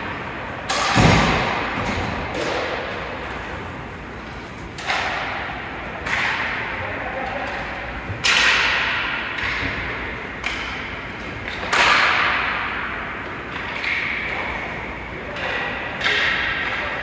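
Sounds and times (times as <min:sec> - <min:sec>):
hockey stick hitting puck: 0:00.6 - 0:03.4, 0:04.2 - 0:14.4, 0:15.4 - 0:17.0.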